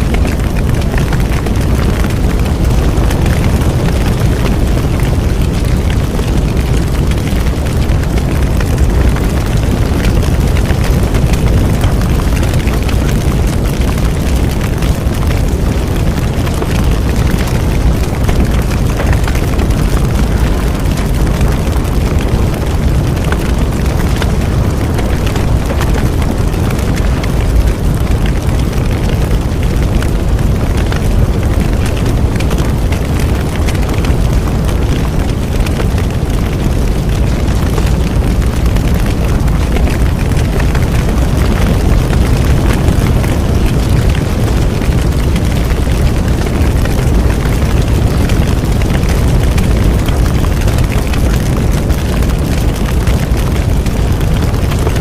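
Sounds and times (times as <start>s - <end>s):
bonfire rumbling and crackling: 0.0s - 55.0s.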